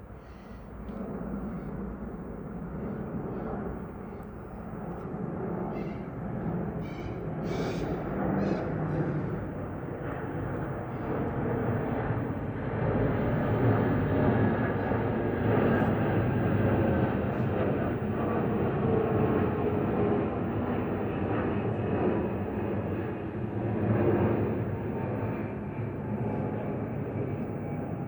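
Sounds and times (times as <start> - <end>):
faint engine whine: 0.0 - 28.0
jet engines rumbling: 0.0 - 28.0.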